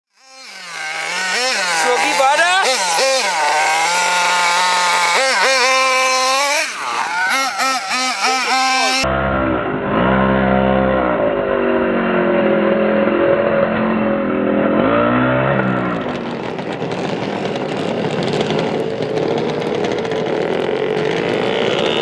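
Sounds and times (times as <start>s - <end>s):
small nitro engine revving: 0.1s - 22.0s.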